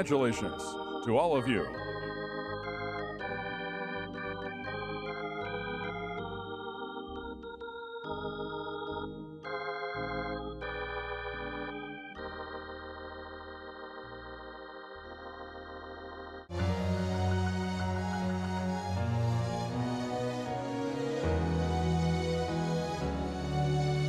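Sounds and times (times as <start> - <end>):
electric organ playing chords: 0.0 - 24.0.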